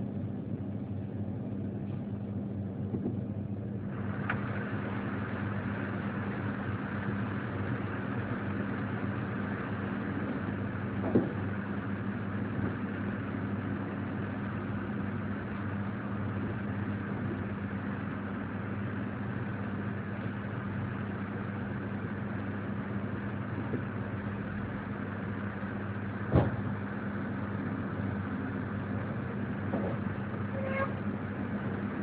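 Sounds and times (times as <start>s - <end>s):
low even hum: 0.0s - 32.0s
train running noise: 0.0s - 32.0s.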